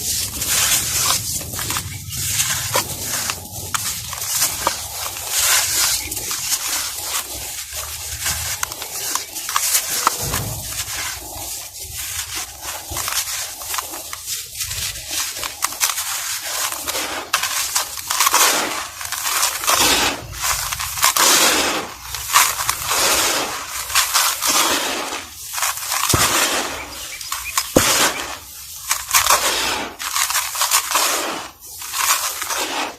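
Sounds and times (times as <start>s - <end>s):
crumbly material crushed by hand: 0.0s - 32.9s.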